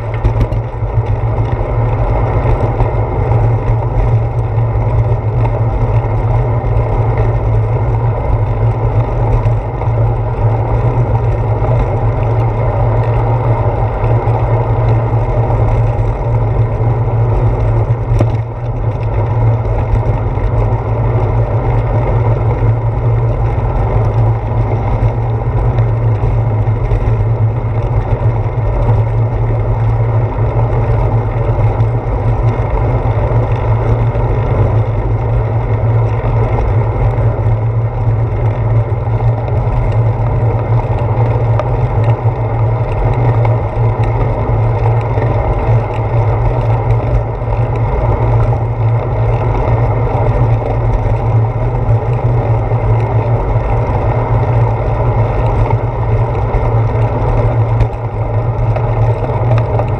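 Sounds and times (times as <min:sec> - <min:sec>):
bicycle road noise: 0:00.0 - 0:59.9
wind rumble: 0:00.0 - 0:59.9.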